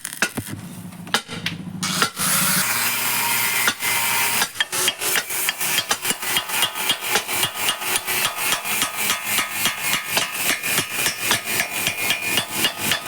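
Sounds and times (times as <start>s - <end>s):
hammer striking metal: 0.0s - 2.8s, 3.5s - 13.0s.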